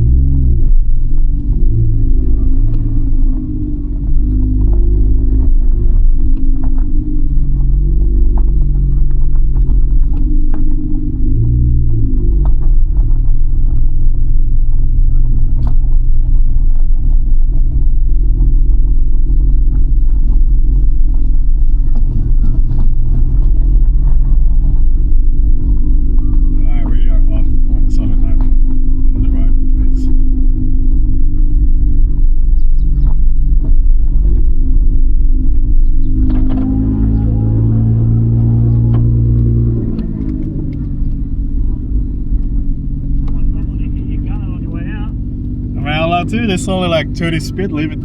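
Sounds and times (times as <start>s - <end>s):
car engine rumbling: 0.0s - 48.0s.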